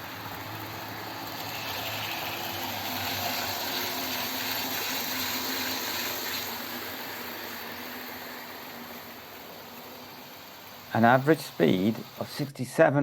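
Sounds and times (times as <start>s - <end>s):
wheels on rails: 0.0s - 12.5s
model train motors whirring: 0.0s - 13.0s.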